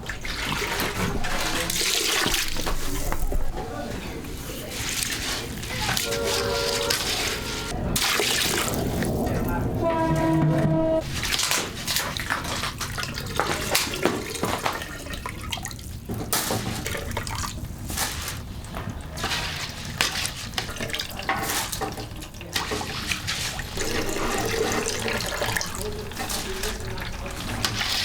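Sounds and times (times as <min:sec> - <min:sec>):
water running and splashing: 0:00.0 - 0:28.0.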